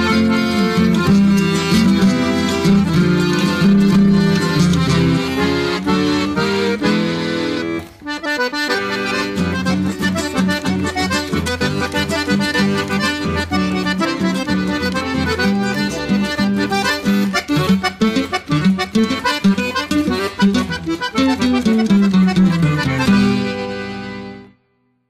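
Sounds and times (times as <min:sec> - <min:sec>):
piano accordion: 0:00.0 - 0:24.6
guitar accompaniment: 0:00.0 - 0:25.0.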